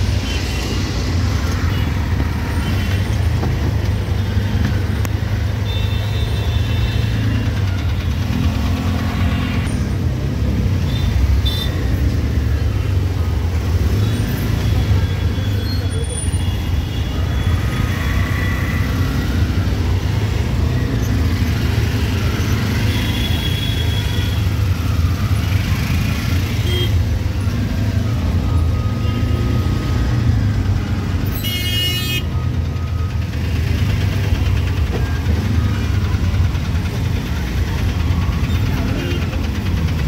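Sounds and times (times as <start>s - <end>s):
rickshaw engine running: 0.0s - 31.3s, 32.2s - 40.0s.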